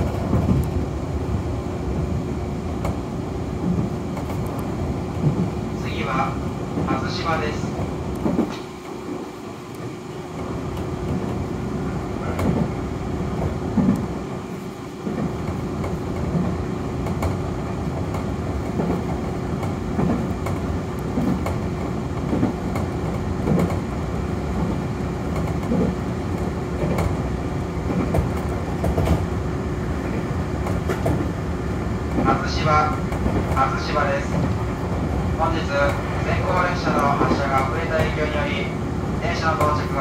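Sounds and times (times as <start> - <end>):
train rumble and hum: 0.0 - 40.0.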